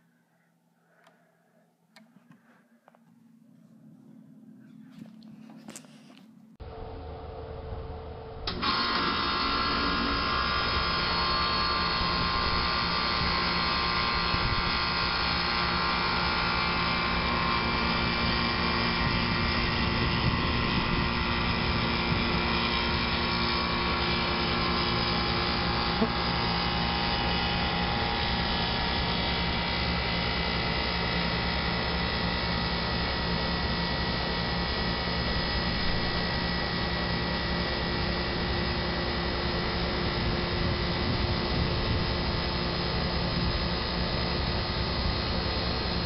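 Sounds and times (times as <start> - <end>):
air conditioner unit running: 6.3 - 46.0.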